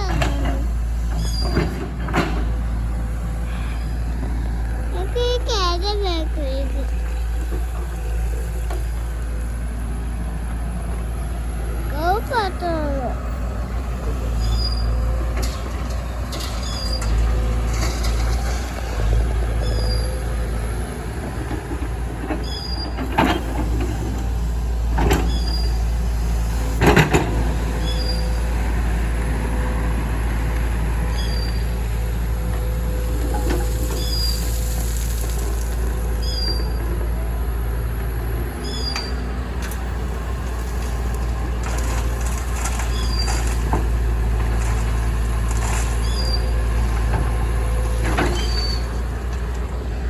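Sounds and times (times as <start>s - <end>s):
excavator engine rumbling: 0.0s - 50.0s.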